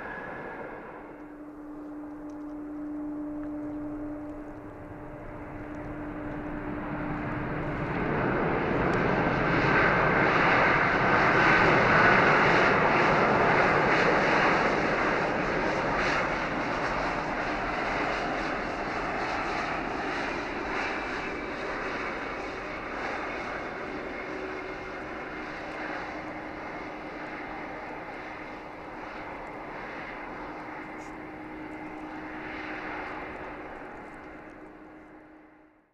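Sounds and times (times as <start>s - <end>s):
jet engines in reverse thrust: 0.0s - 35.9s.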